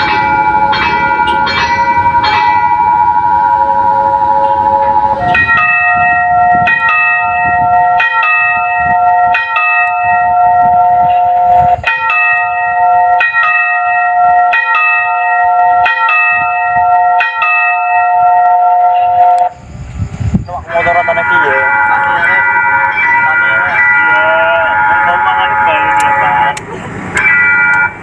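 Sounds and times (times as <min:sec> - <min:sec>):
crossing signal bell chiming: 0:00.0 - 0:28.0.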